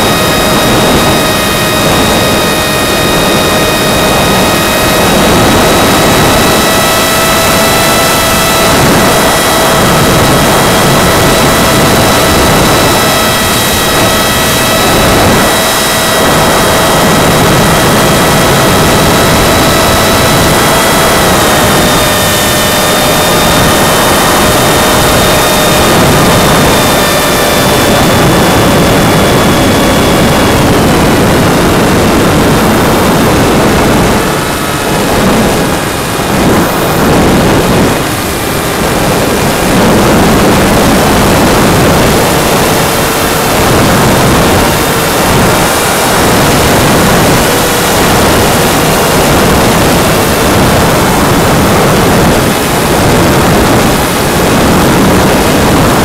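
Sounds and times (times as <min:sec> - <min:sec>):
electric motor whine: 0:00.0 - 0:56.0
rush of air: 0:00.0 - 0:56.0.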